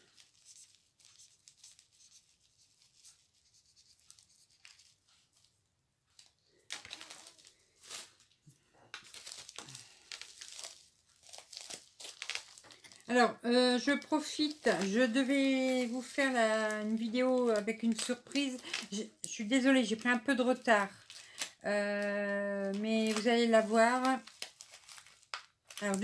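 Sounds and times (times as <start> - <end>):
packaging crinkling and rustling: 0.0 - 26.0.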